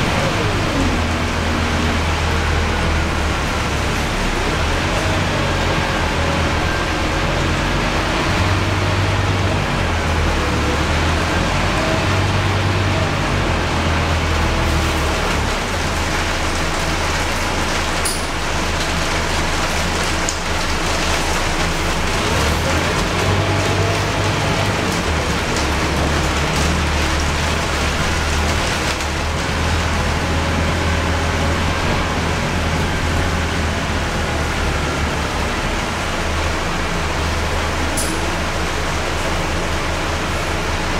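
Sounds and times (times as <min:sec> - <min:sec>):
bus diesel engine drone: 0:00.0 - 0:40.9
rain on windows: 0:00.0 - 0:40.9
wet road tyre noise: 0:00.0 - 0:40.9.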